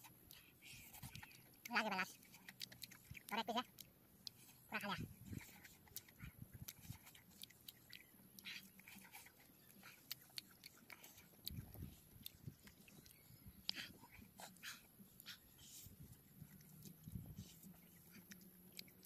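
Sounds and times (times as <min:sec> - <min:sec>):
open-mouthed chewing: 0:00.0 - 0:19.0.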